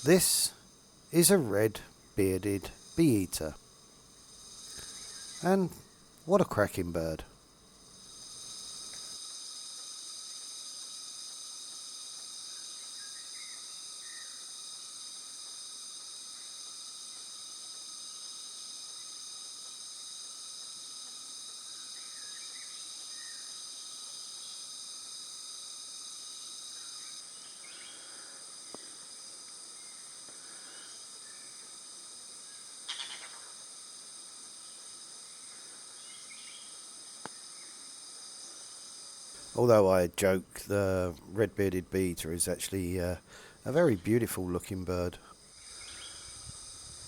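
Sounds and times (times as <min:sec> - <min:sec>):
forest insects droning: 0:00.0 - 0:47.0.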